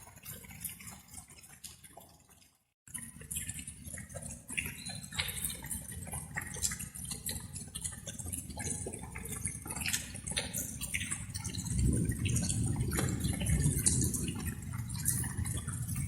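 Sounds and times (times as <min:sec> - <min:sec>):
water dripping and splashing: 0:00.0 - 0:16.0.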